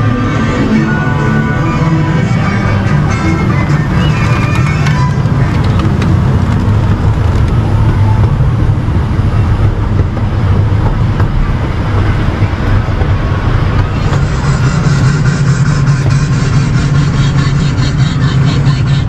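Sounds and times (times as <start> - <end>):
train cars rumbling on track: 0.0 - 19.0.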